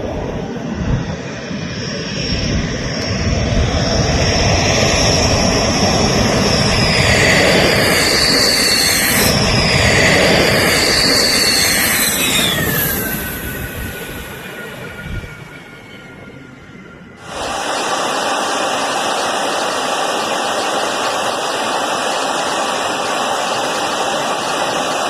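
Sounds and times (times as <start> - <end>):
high whine dropping in pitch: 0.0 - 25.0
jet aircraft roar: 0.0 - 25.0.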